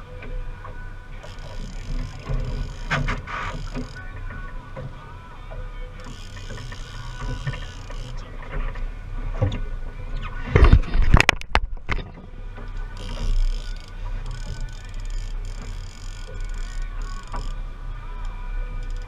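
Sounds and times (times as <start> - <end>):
boat engine running: 0.0 - 19.0
wind and water noise: 0.0 - 19.0.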